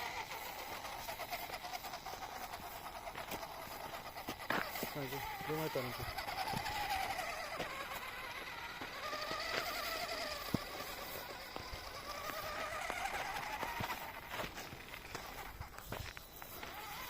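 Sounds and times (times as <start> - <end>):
toy car electric motor whining: 0.0 - 17.0.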